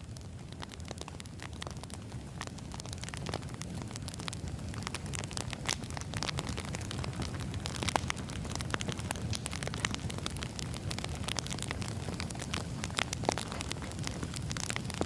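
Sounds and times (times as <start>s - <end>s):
firewood burning: 0.0s - 15.0s
wood crackling and popping: 0.0s - 15.0s.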